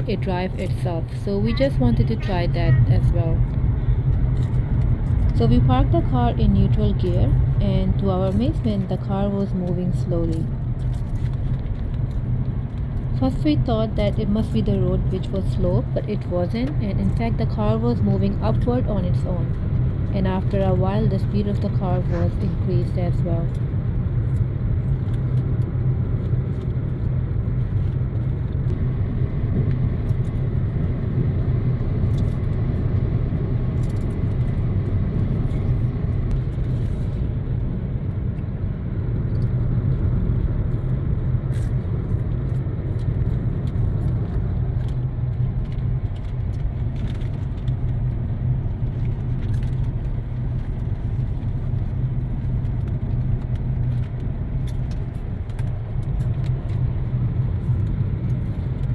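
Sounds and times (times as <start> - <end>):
car rolling on paved road: 0.0 - 58.9.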